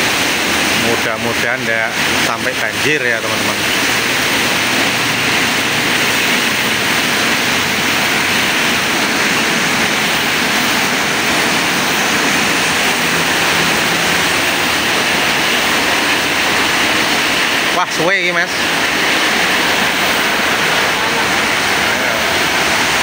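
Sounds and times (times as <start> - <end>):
heavy rain pouring: 0.0 - 23.0
vehicles passing on wet road: 0.0 - 23.0.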